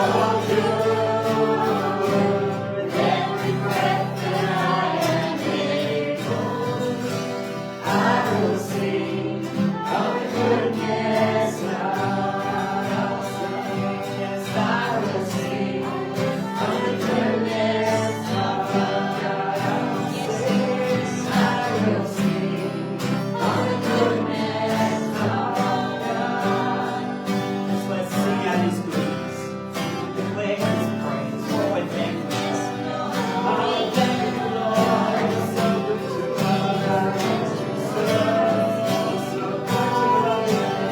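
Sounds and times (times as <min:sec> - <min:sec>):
group singing: 0:00.0 - 0:40.9.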